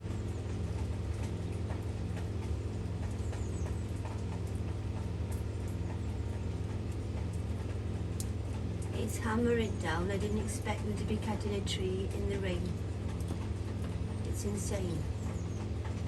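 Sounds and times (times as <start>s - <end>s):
low engine drone: 0.0s - 16.0s
raindrops tapping near microphone: 0.0s - 16.0s
heavy rain: 0.1s - 15.2s.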